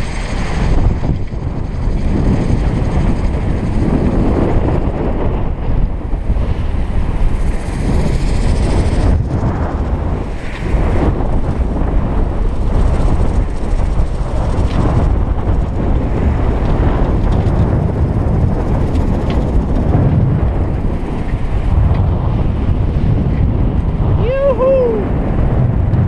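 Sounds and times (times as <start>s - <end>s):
water rushing along hull: 0.0s - 25.6s
wind buffeting microphone: 0.0s - 26.0s.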